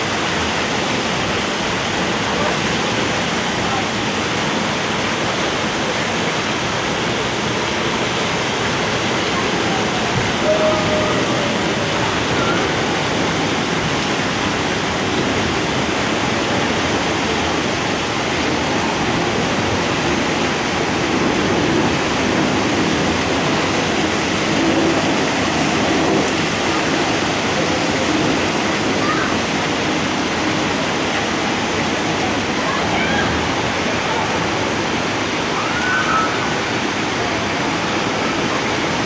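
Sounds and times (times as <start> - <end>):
water falling and splashing: 0.0 - 39.0.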